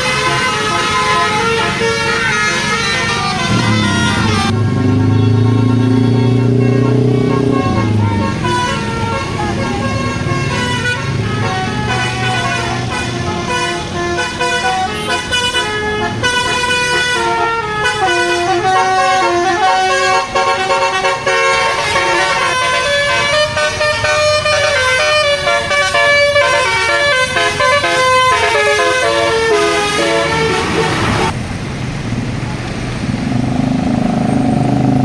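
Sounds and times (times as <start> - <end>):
musical air horn melody: 0.0 - 31.3
bus engine running: 0.0 - 35.0.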